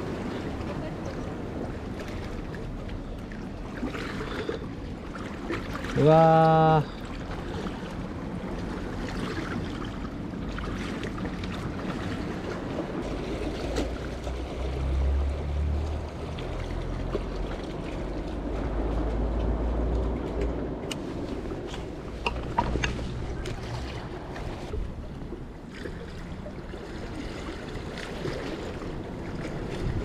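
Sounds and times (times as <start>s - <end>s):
sea water lapping: 0.0s - 30.0s
wind rumbling on microphone: 0.0s - 30.0s.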